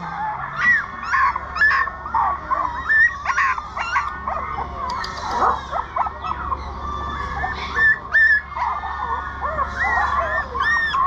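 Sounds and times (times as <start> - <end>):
puppies whimpering and yipping: 0.0 - 11.0.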